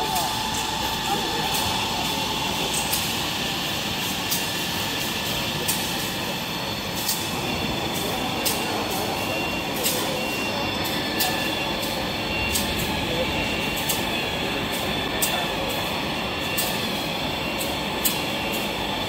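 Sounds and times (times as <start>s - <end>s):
machine drone and whine: 0.0s - 19.0s.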